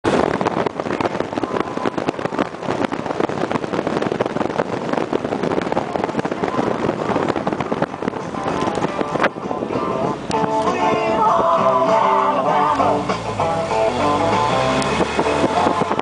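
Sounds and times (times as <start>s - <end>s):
vehicle road noise: 0.0s - 16.0s
wind noise: 0.0s - 16.0s.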